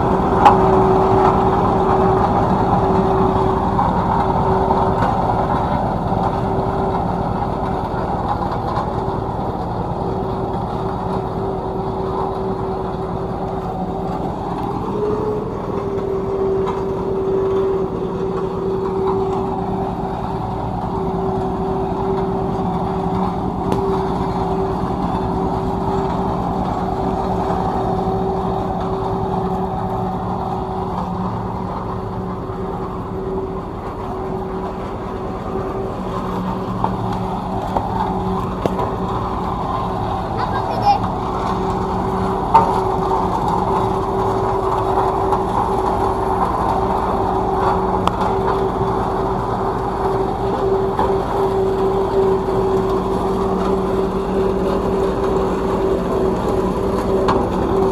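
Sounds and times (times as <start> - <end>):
road roller engine running: 0.0 - 57.9.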